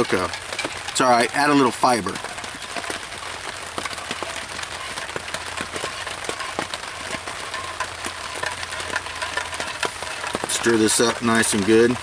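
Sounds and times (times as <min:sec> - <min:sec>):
rain pattering on tarp: 0:00.0 - 0:12.0.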